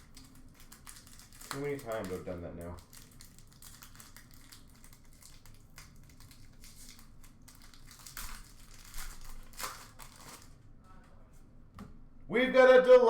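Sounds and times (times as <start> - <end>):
card pack wrapper crinkling: 0.0 - 10.6.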